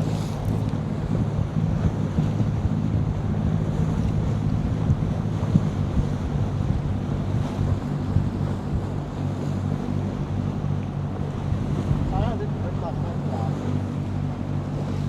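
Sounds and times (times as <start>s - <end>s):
boat engine droning: 0.0s - 15.0s
water rushing past hull: 0.0s - 15.0s
wind buffeting microphone: 0.0s - 15.0s.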